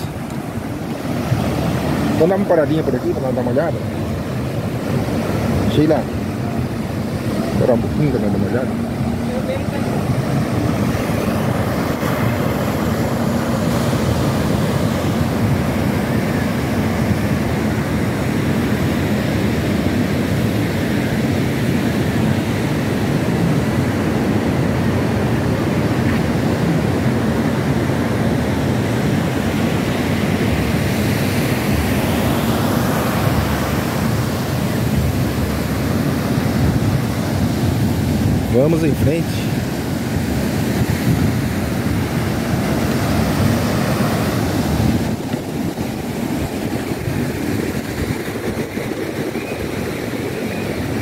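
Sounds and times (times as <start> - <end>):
ocean surf breaking: 0.0 - 51.0
wind on microphone: 0.0 - 51.0.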